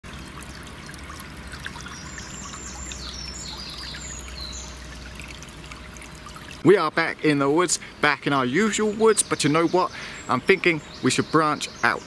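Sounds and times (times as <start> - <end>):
stream trickling: 0.0 - 12.0
songbird singing: 1.2 - 12.0.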